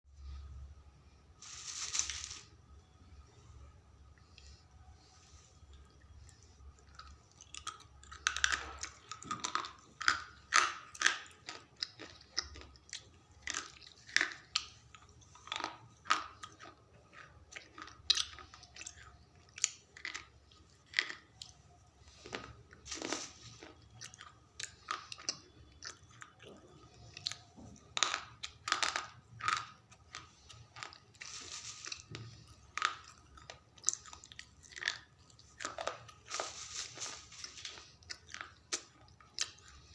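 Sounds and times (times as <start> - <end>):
slate pencils crunched by chewing: 5.6 - 39.9.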